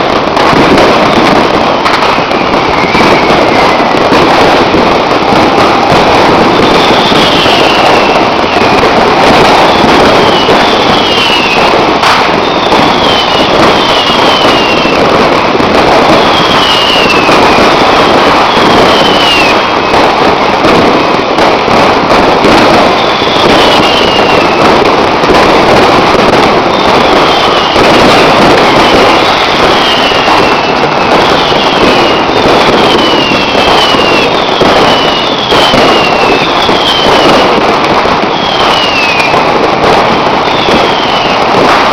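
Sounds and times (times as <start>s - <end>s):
falling firework whistles: 0.0s - 41.9s
firecrackers crackling: 0.0s - 41.9s.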